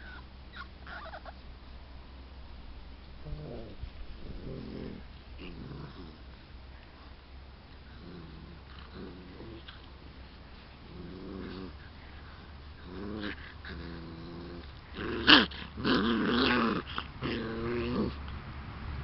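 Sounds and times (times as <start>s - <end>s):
puppies growling and yapping: 0.0s - 1.4s, 3.2s - 7.0s, 7.7s - 18.4s.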